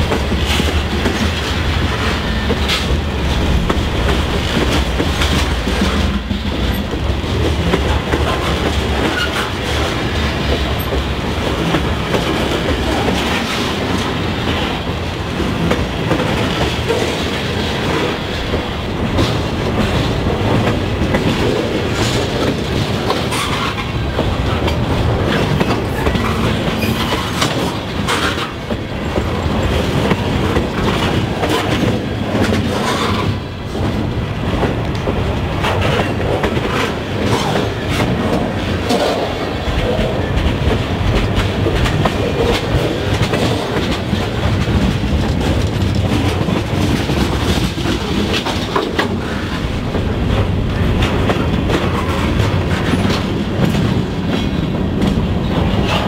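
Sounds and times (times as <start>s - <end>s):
freight train rumbling past: 0.0s - 56.0s
wheels clattering over rail joints: 0.0s - 56.0s.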